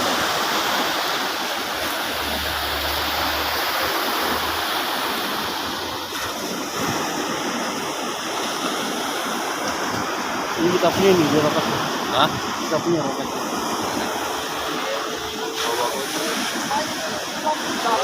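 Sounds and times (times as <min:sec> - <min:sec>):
sea surf washing onto beach: 0:00.0 - 0:18.0.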